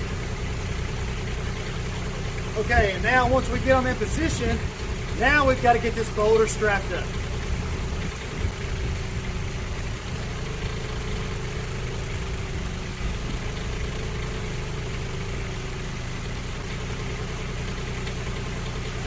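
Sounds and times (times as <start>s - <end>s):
construction machine engine idling: 0.0s - 19.0s.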